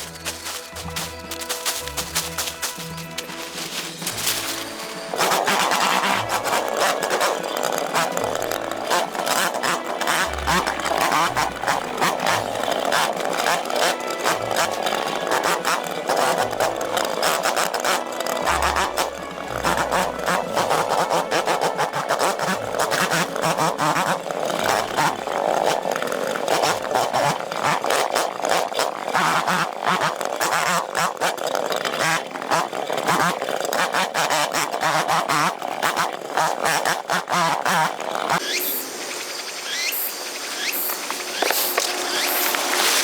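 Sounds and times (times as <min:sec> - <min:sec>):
small petrol engine rattling: 0:00.0 - 0:43.0.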